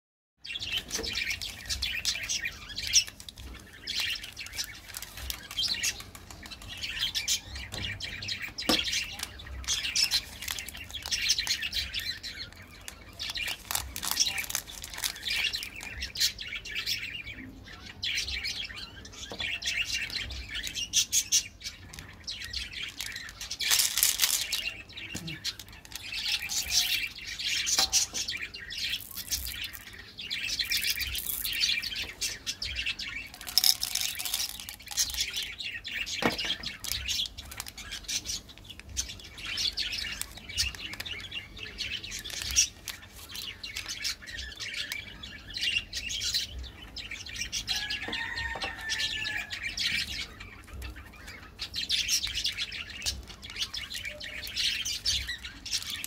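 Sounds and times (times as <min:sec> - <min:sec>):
small birds chirping: 0:00.4 - 0:56.0.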